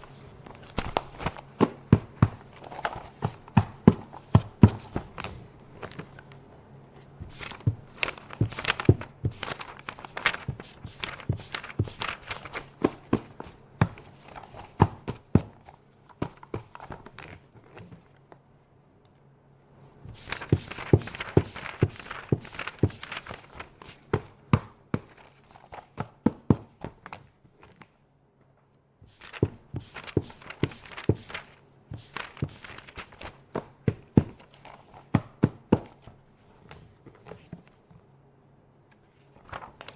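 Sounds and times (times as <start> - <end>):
paper rustling: 0.0 - 18.2, 20.0 - 28.0, 29.0 - 38.0, 38.9 - 39.9.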